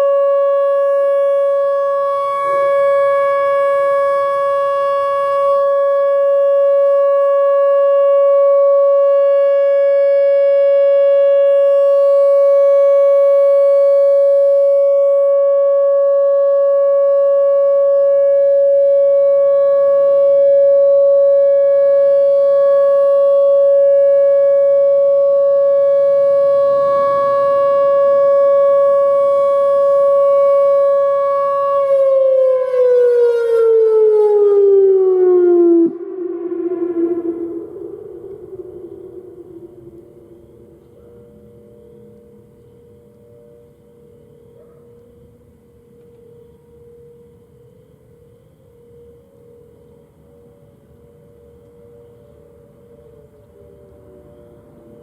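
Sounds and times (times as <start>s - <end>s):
electronic warning siren steady tone: 0.0s - 55.0s.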